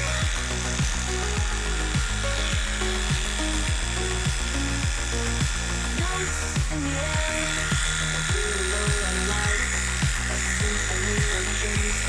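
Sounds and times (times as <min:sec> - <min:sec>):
background music with low beat: 0:00.0 - 0:12.0
electric clipper buzzing: 0:00.0 - 0:12.0.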